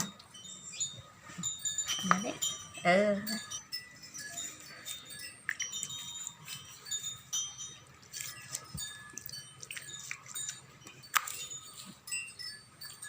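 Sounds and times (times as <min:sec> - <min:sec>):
chimes tinkling: 0:00.0 - 0:13.0.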